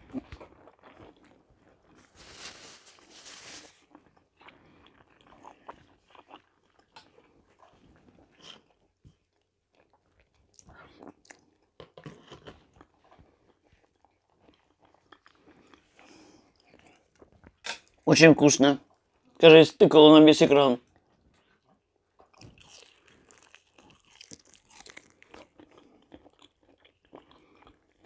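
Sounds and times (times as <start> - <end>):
quiet chewing and mouth sounds: 0.0 - 18.1, 18.8 - 19.4, 20.8 - 28.0.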